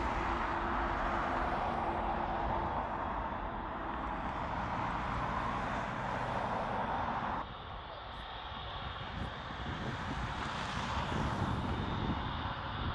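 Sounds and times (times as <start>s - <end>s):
airliner engine rumble and hiss: 0.0s - 12.9s.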